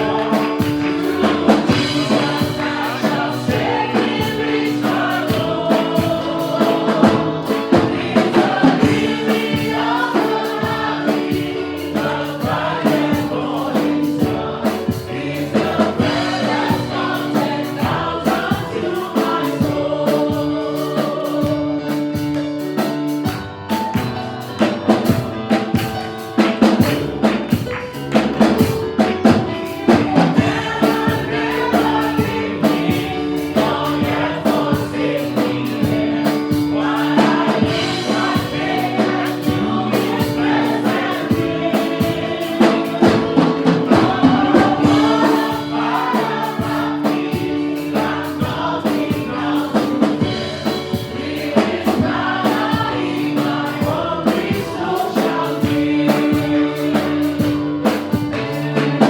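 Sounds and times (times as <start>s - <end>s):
band with drum kit: 0.0s - 59.0s
gospel choir singing: 0.0s - 59.0s.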